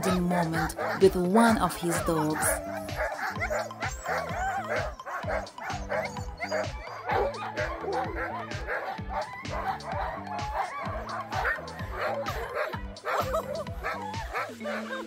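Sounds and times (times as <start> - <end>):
background music with beat: 0.0 - 15.0
huskies yipping and barking: 0.0 - 15.0.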